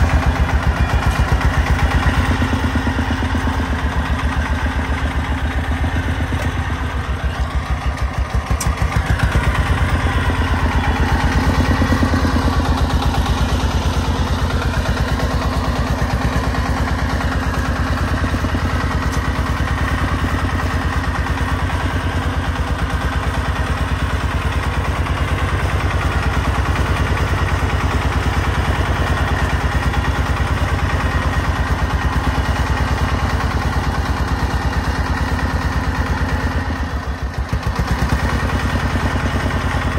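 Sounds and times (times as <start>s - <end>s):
diesel truck engine chugging: 0.0s - 39.9s.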